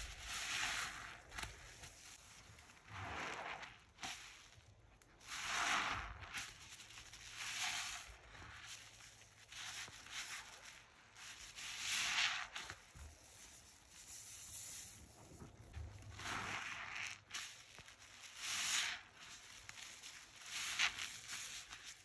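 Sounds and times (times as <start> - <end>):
foam crackling and fizzing: 0.0 - 22.0
wet sponge squelching: 0.0 - 22.0.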